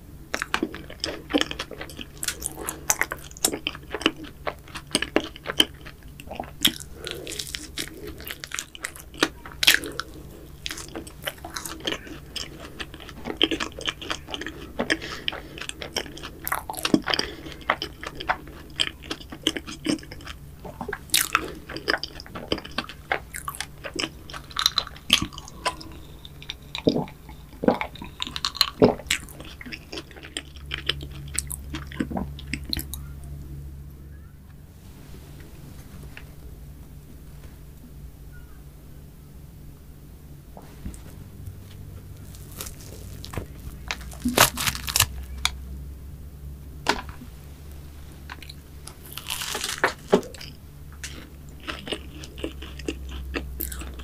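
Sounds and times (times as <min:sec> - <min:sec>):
chewing crunchy cookie: 0:00.3 - 0:33.2, 0:40.6 - 0:45.6, 0:48.2 - 0:54.0.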